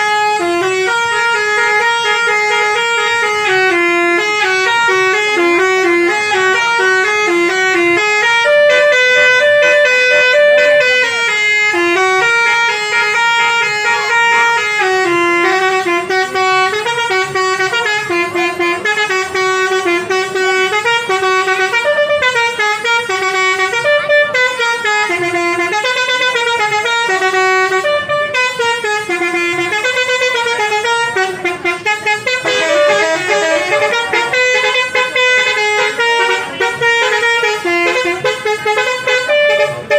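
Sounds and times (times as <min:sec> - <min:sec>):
musical air horn tune: 0:00.0 - 0:39.9.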